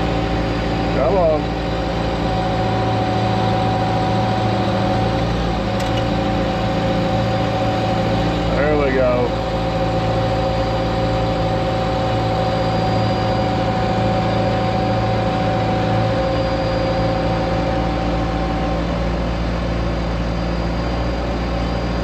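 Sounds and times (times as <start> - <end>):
diesel engine running: 0.0 - 22.0
whine over engine: 0.0 - 22.0.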